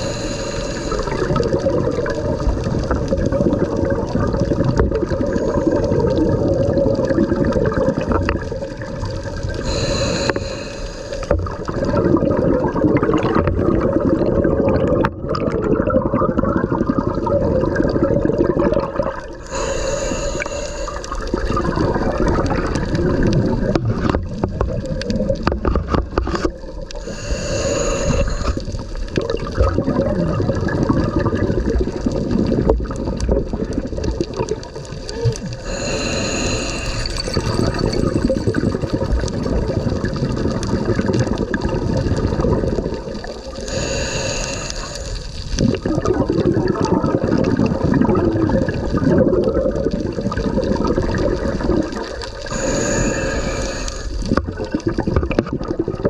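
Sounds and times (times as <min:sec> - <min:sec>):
bubbling hiss surges: 0:00.0 - 0:25.4, 0:27.0 - 0:56.0
underwater churning and gurgling: 0:00.0 - 0:56.0.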